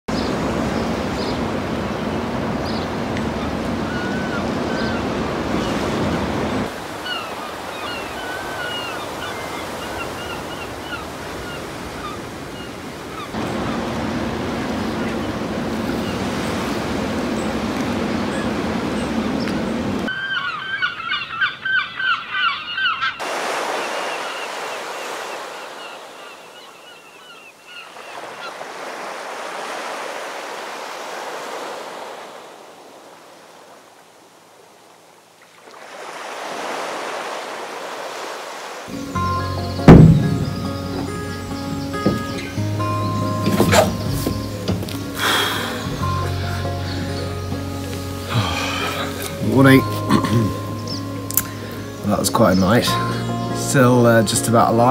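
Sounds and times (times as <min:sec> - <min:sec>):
waves washing on shingle: 0:00.1 - 0:20.1, 0:23.2 - 0:26.6, 0:27.8 - 0:34.7, 0:35.4 - 0:47.0, 0:47.7 - 0:50.7
birds calling: 0:00.1 - 0:34.0, 0:35.4 - 0:54.9.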